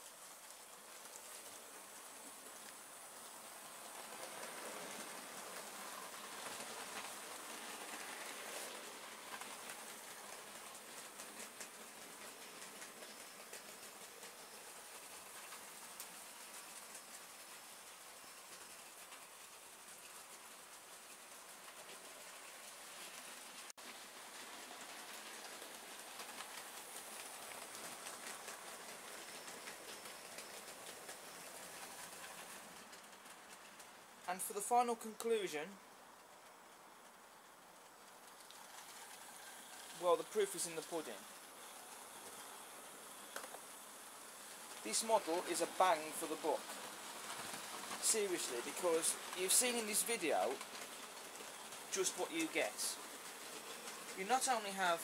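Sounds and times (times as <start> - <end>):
model train wheels rattling on rail: 0.0 - 55.0.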